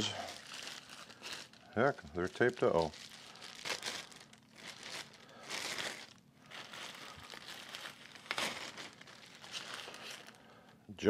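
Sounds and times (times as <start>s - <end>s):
packaging wrap crinkling and tearing: 0.0s - 10.8s.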